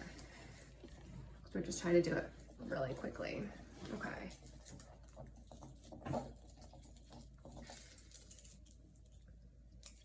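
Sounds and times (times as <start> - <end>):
hands rustling ribbon: 0.0 - 10.0.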